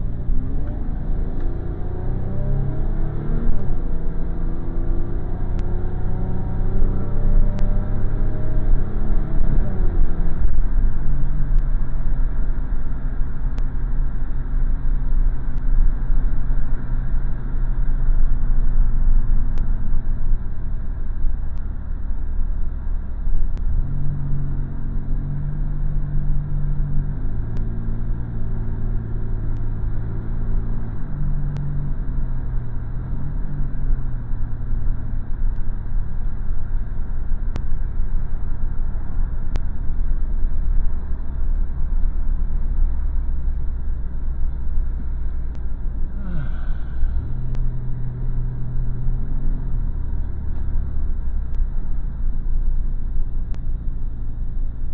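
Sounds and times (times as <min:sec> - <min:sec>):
car engine and road rumble: 0:00.0 - 0:54.9
droning tone: 0:02.9 - 0:54.9.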